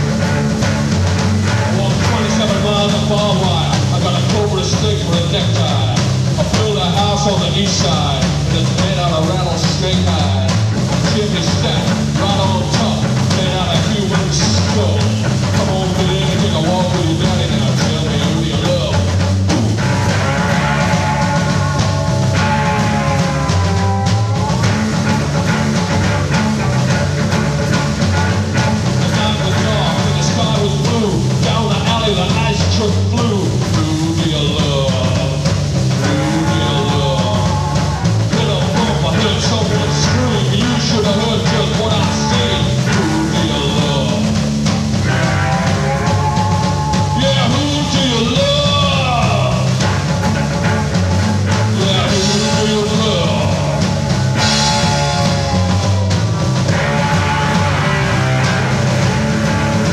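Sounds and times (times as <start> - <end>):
bass guitar: 0.0 - 59.9
drums: 0.0 - 59.9
slide guitar: 0.0 - 59.9.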